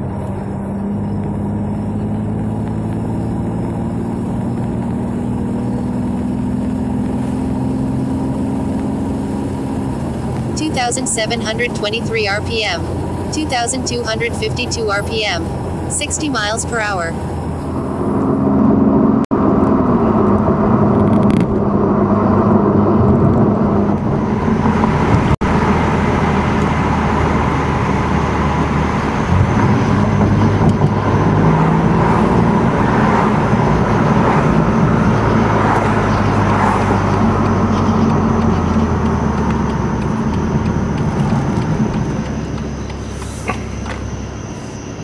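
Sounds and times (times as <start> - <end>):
car engine cruising: 0.0 - 45.0
tyre and road noise: 0.0 - 45.0.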